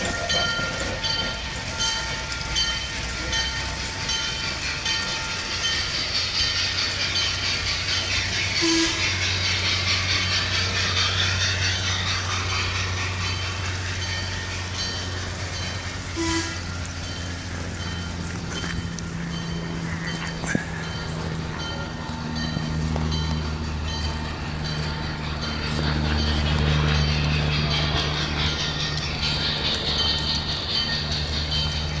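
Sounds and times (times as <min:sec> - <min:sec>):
model train wheels on rails: 0:00.0 - 0:32.0.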